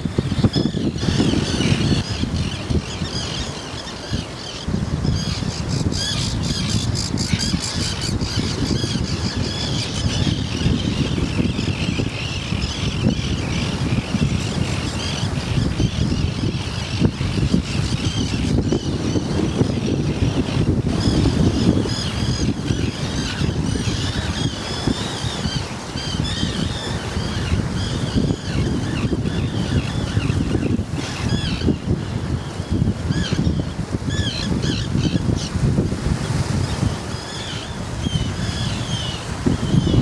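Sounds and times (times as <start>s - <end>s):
wind and surf rumble: 0.0s - 40.0s
terns calling harshly: 0.2s - 31.8s, 32.6s - 35.6s.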